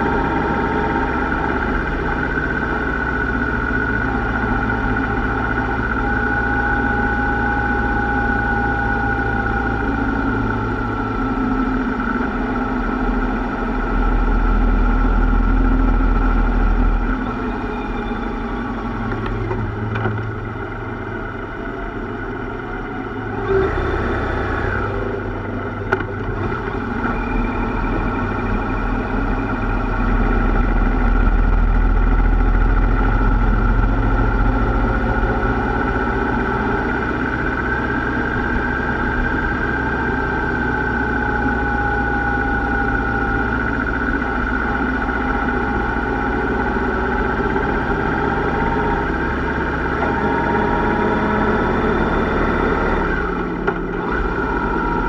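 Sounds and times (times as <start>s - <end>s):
motorcycle running: 0.0s - 55.0s.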